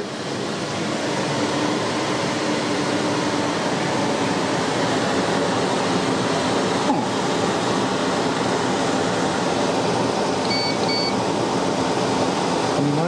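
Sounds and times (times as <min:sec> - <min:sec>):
dehumidifier fan blowing air: 0:00.0 - 0:13.0.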